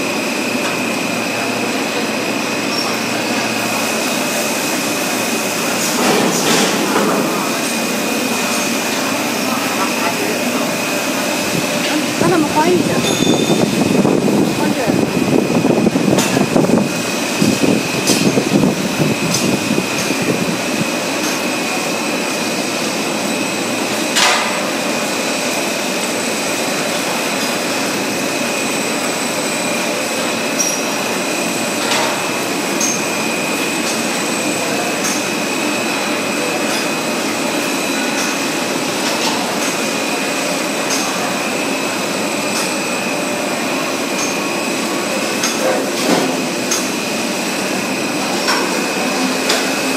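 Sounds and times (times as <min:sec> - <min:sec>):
high-pitched machine whine: 0:00.0 - 0:49.9
machine hum and whir: 0:00.0 - 0:49.9.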